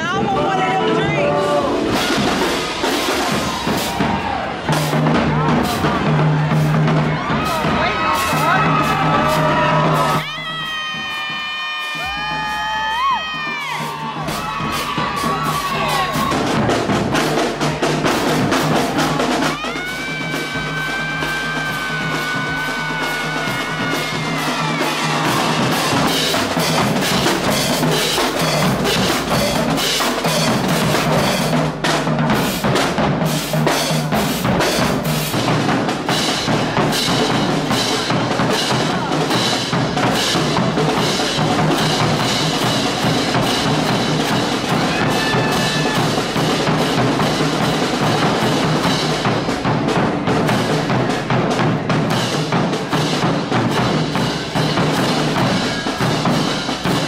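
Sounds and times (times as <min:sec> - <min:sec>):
bass drums: 0:00.0 - 0:57.0
snare drums: 0:00.0 - 0:57.0.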